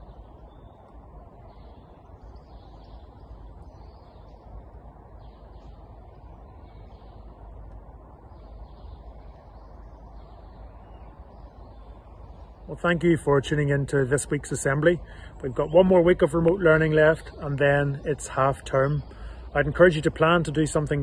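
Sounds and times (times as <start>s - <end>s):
faint birds chirping: 0.0s - 21.0s
low background rumble: 0.0s - 21.0s.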